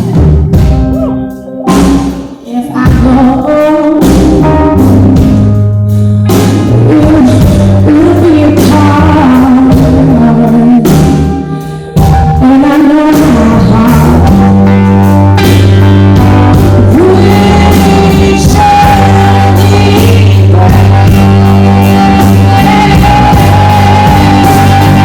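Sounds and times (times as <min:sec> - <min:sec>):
person singing: 0:00.0 - 0:05.5, 0:06.3 - 0:15.6, 0:16.2 - 0:25.0
rock song: 0:00.0 - 0:25.0.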